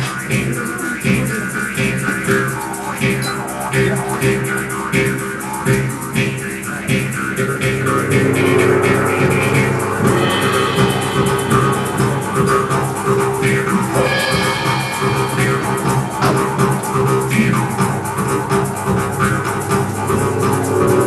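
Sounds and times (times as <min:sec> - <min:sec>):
jaw harps buzzing: 0:00.0 - 0:21.0.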